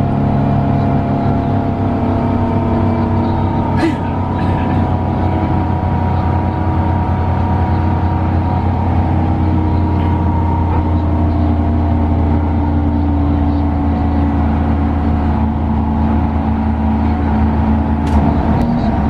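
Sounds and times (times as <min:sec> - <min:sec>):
coach engine drone: 0:00.0 - 0:19.0
road noise: 0:00.0 - 0:19.0.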